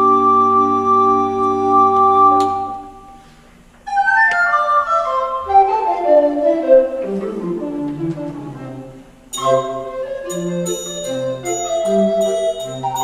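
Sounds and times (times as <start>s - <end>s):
recorder ensemble playing: 0.0s - 13.0s.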